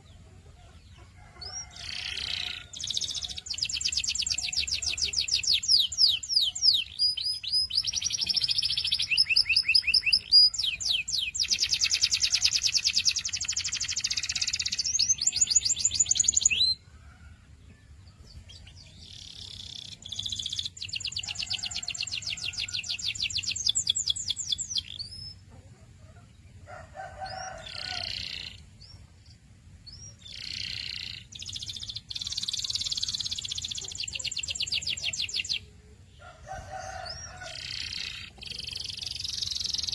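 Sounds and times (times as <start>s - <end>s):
canary singing: 0.0s - 16.9s, 18.3s - 25.5s, 27.0s - 29.1s, 29.8s - 39.9s.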